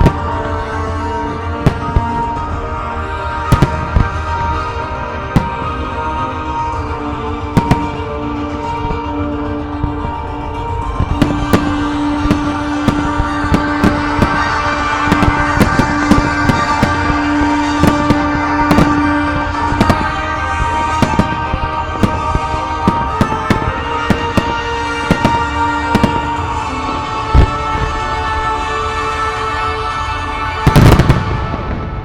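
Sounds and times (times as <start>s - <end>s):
fireworks exploding: 0.0s - 2.6s, 3.3s - 4.7s, 5.3s - 6.0s, 7.5s - 9.2s, 9.8s - 28.2s, 30.6s - 32.0s
music with long held tones: 0.0s - 32.0s.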